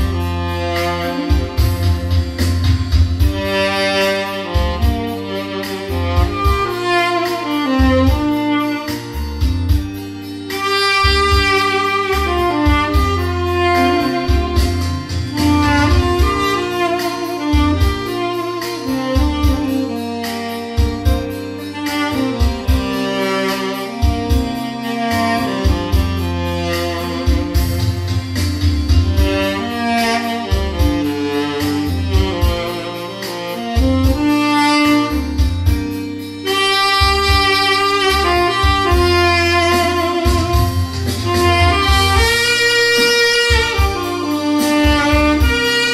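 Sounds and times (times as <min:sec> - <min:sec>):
backing track with bass and drums: 0:00.0 - 0:45.9
tenor saxophone melody: 0:00.0 - 0:45.9.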